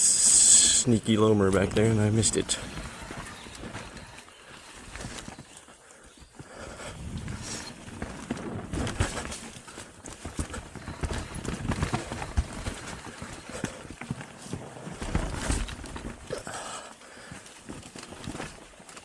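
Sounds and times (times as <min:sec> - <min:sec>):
bike clattering over rough trail: 0:00.4 - 0:19.0.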